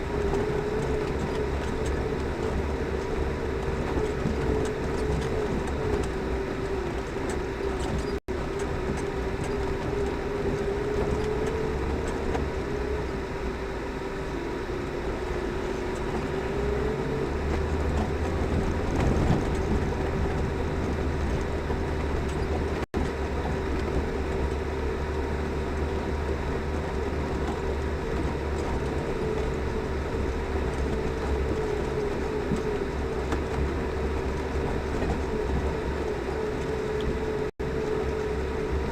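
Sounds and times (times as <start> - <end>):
car engine and drivetrain rumble: 0.0 - 38.9
drivetrain whine: 0.0 - 38.9.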